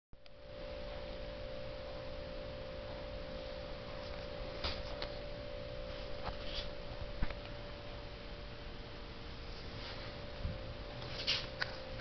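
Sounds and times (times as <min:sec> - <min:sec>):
steady mid-pitched tone: 0:00.2 - 0:12.0.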